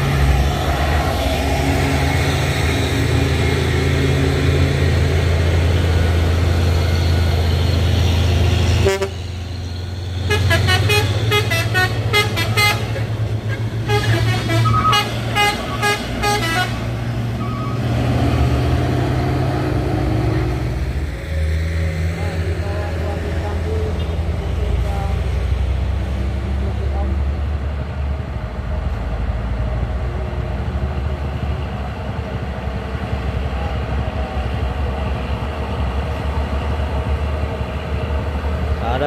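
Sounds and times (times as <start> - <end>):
truck diesel engine droning: 0.0 - 39.0.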